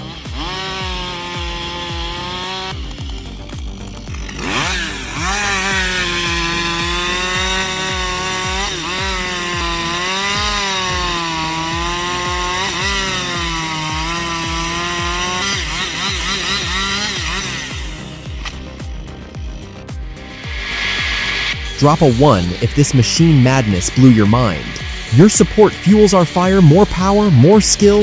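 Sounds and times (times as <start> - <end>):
background music with steady beat: 0.0 - 28.0
chainsaw cutting wood: 0.0 - 28.0.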